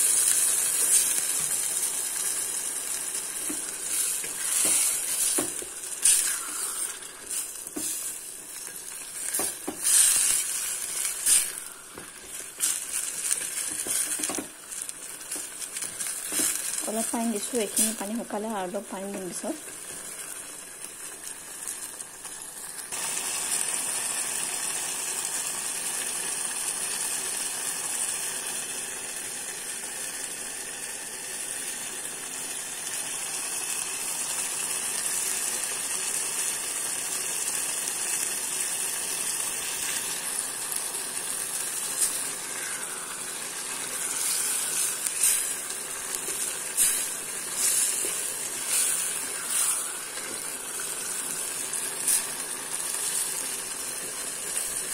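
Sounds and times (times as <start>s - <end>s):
curry bubbling and sizzling: 0.0s - 54.9s.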